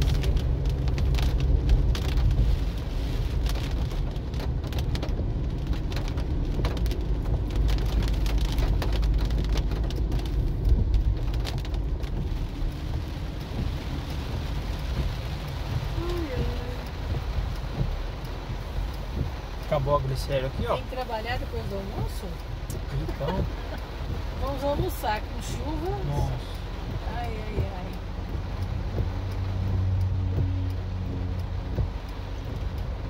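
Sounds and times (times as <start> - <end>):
heavy rain hitting car roof: 0.0 - 33.0
low road rumble: 0.0 - 33.0.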